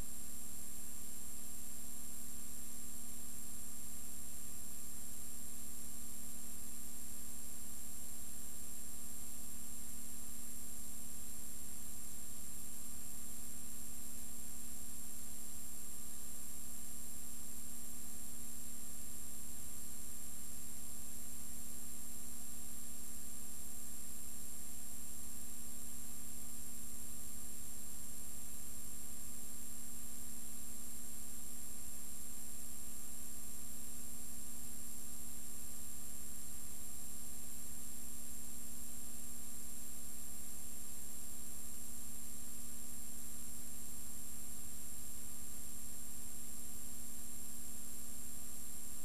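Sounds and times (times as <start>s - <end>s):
electrical hum and hiss: 0.0s - 49.0s.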